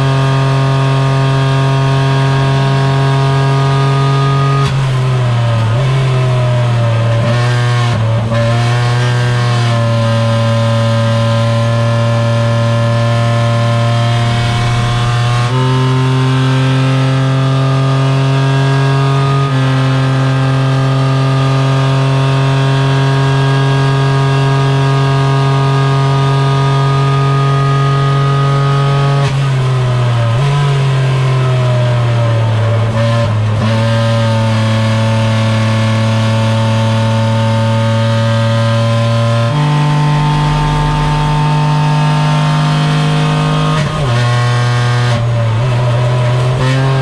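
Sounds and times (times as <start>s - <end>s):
race car engine running hard: 0.0s - 47.0s.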